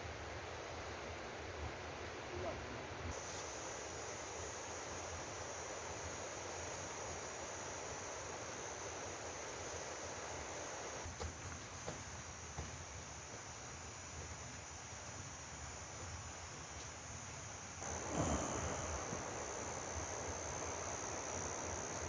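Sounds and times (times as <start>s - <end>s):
steady hiss: 0.0s - 22.0s
crickets trilling: 0.3s - 22.0s.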